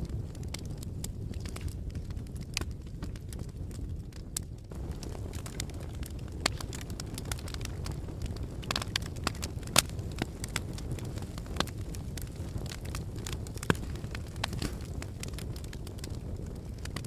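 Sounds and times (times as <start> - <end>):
low noise of flames: 0.0 - 17.0
wood fire crackling and popping: 0.0 - 17.0.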